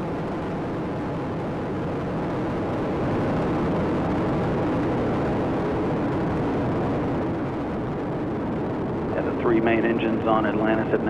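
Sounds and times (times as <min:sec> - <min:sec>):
rocket engines firing: 0:00.0 - 0:11.0.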